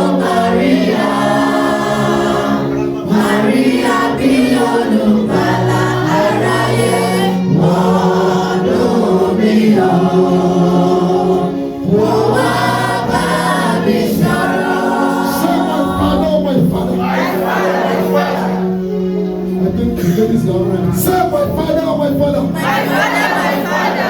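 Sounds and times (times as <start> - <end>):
choir singing a hymn: 0.0 - 24.0
sustained music: 0.0 - 24.0.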